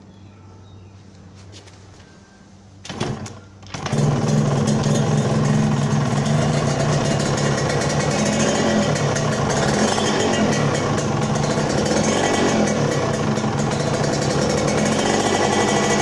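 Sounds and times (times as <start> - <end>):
two-stroke engine starting: 2.8 - 16.0.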